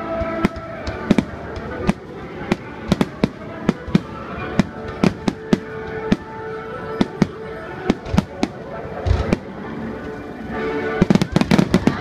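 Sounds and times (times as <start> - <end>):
background murmur: 0.0 - 12.0
fireworks banging: 0.0 - 12.0.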